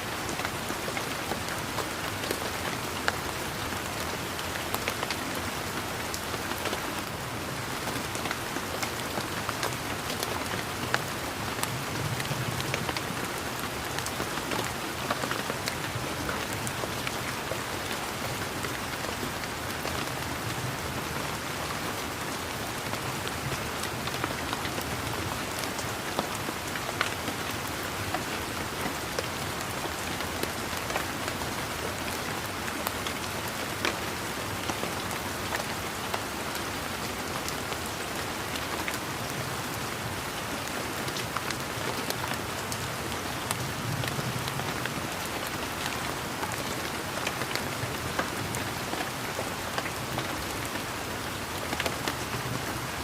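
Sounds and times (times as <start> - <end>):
steady rain falling: 0.0 - 53.0
raindrops striking close by: 0.1 - 53.0.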